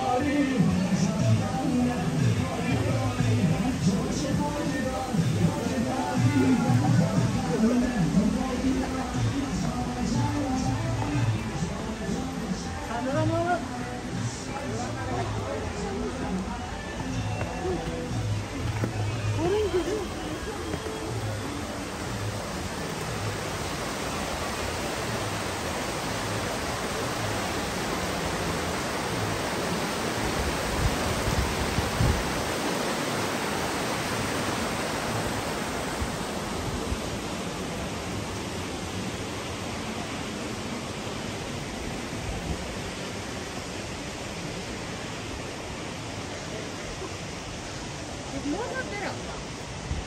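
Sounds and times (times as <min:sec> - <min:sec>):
stream rushing over boulders: 0:00.0 - 0:50.0.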